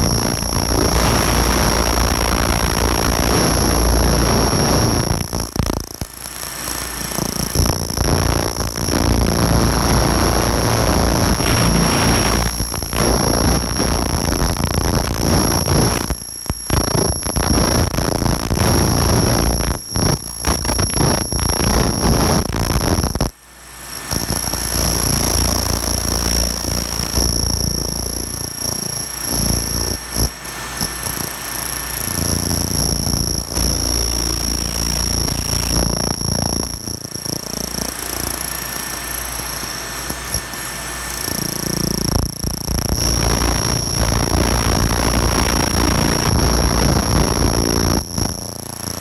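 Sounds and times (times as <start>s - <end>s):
high-pitched whine: 0.0s - 49.0s.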